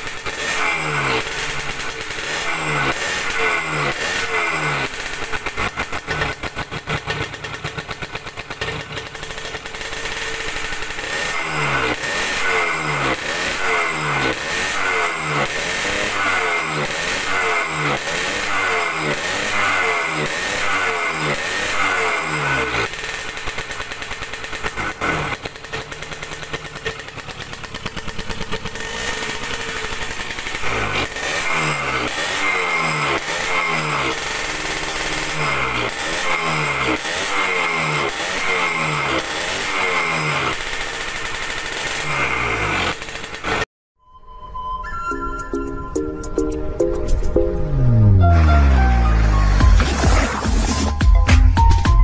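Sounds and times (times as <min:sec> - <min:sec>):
two-stroke engine revving and idling: 0:00.0 - 0:43.7, 0:47.7 - 0:51.0.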